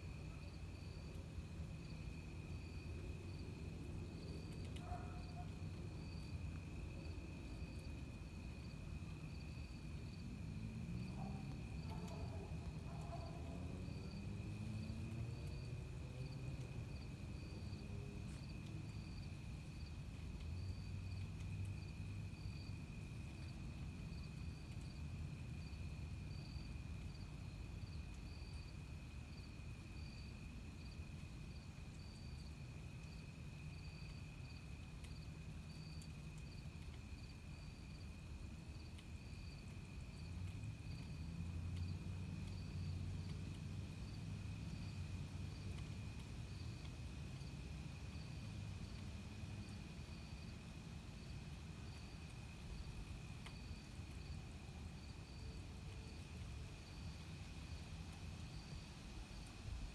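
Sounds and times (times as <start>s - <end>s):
insect chirping: 0.1s - 50.6s, 51.2s - 54.4s, 55.0s - 57.8s.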